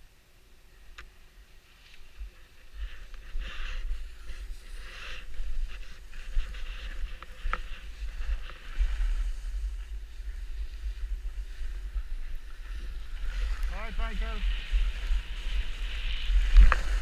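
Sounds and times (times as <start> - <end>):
wind buffeting microphone: 2.2 - 17.0.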